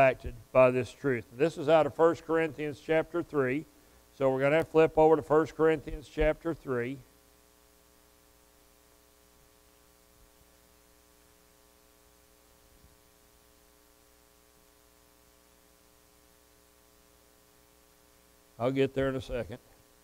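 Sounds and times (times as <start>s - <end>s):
faint hiss: 0.0s - 20.0s
steady electrical hum: 0.0s - 20.0s.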